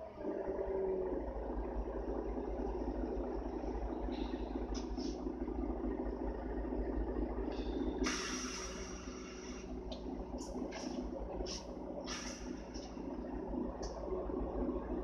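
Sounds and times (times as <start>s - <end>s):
bus diesel engine droning: 0.0s - 15.0s
road noise: 0.0s - 15.0s.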